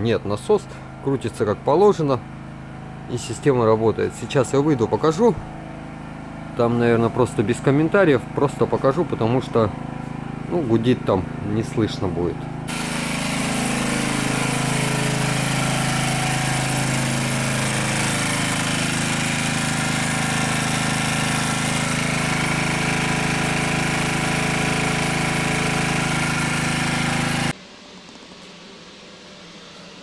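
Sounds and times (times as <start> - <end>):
portable generator engine running: 0.0 - 27.6.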